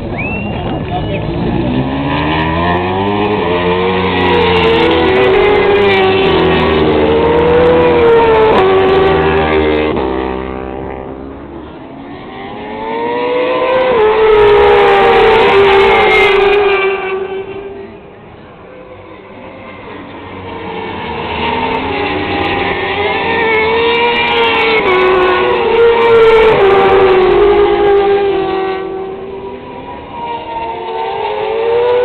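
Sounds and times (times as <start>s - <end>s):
racing motorcycles at high revs: 0.8s - 18.0s, 18.8s - 32.0s.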